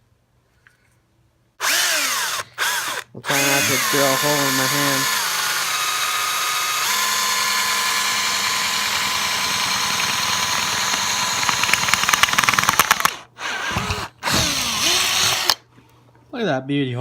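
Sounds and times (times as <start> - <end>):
electric drill boring: 1.6 - 15.6.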